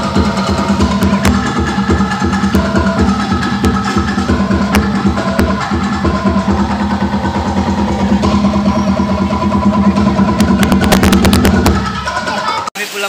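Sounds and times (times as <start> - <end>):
steady low tone: 0.0 - 11.8
fast driving drum rhythm: 0.0 - 13.0.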